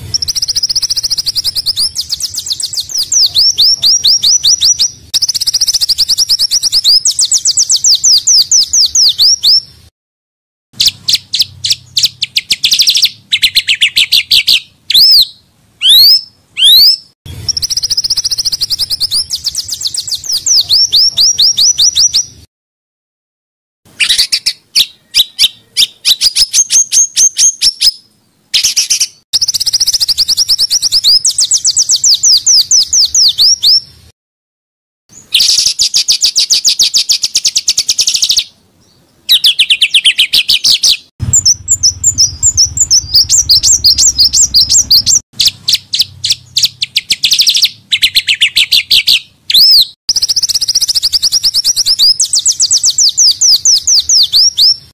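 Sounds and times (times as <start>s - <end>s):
songbirds singing rapid trills: 0.0s - 9.9s, 10.8s - 22.5s, 23.9s - 34.1s, 35.1s - 54.9s.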